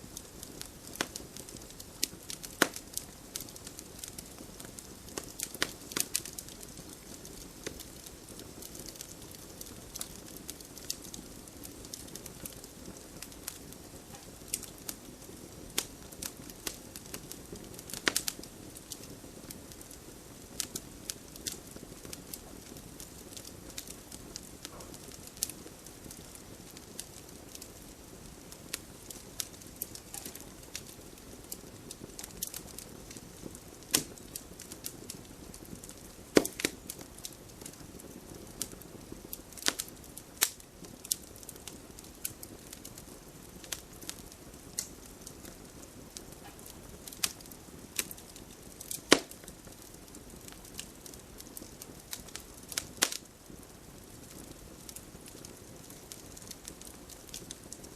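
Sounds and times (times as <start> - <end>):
low rush of burning fire: 0.0 - 57.9
campfire pops and snaps: 0.2 - 20.0, 20.6 - 27.6, 28.2 - 57.9.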